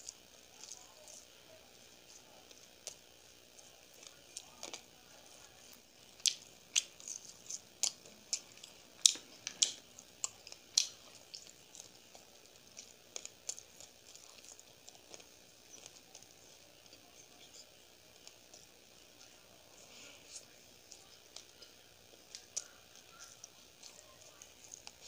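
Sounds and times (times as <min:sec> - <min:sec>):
person chewing with wet smacks: 0:02.0 - 0:25.0.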